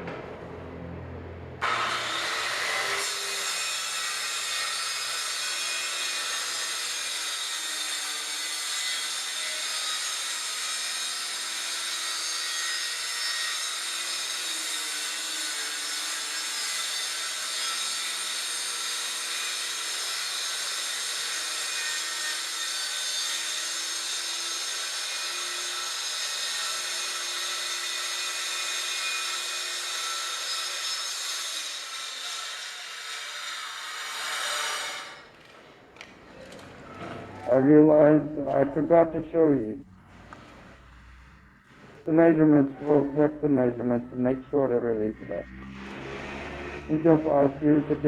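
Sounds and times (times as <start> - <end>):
circular saw cutting: 1.6 - 35.4, 39.9 - 48.0.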